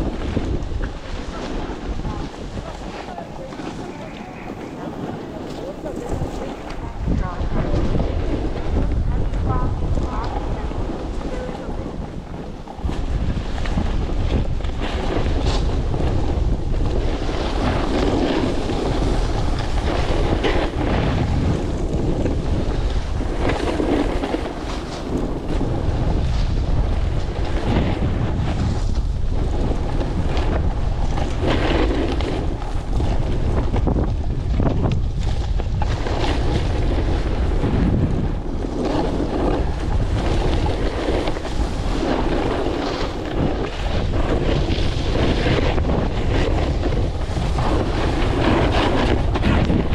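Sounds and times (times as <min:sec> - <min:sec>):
strong wind buffeting microphone: 0:00.0 - 0:49.9.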